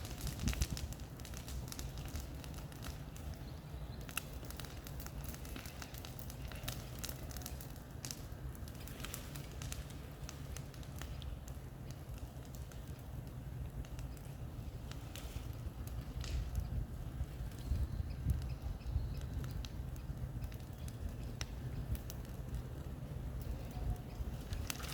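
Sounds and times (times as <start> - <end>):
bonfire crackling and popping: 0.0 - 24.9.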